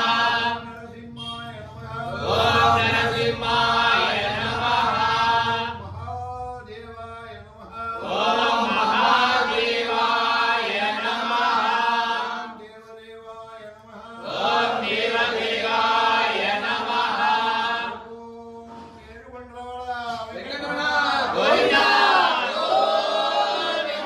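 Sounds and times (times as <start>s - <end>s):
men chanting a hymn: 0.0s - 24.0s.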